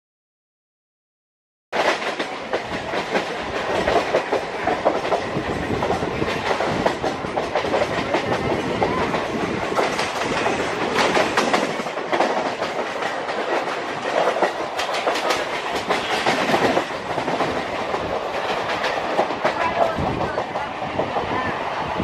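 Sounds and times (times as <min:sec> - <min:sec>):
train wheels clattering over rails: 0:01.8 - 0:21.5.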